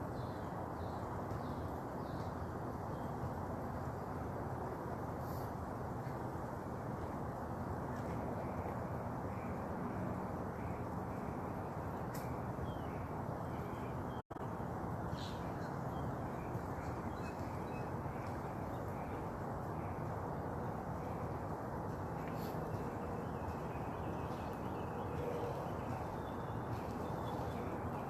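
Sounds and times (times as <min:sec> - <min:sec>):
outdoor noise: 0:00.0 - 0:28.0.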